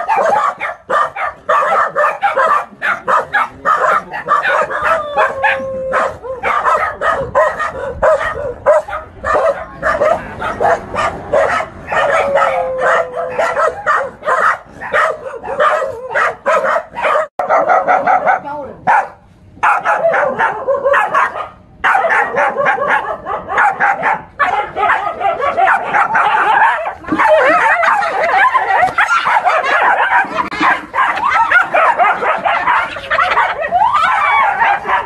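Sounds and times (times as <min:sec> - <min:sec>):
dogs barking rapidly: 0:00.0 - 0:35.0.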